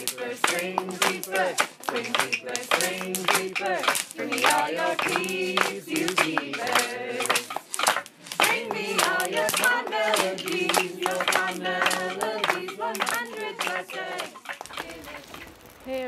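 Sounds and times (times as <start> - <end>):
rhythmic hand claps: 0.0 - 15.4
voices singing or chanting: 0.0 - 15.4.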